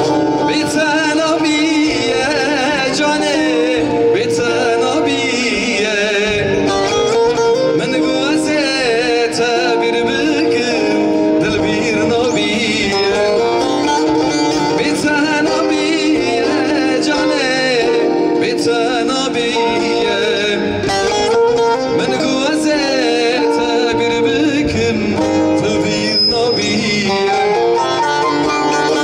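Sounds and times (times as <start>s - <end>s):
long-necked lute: 0.0s - 29.0s
man singing into a microphone: 0.0s - 29.0s.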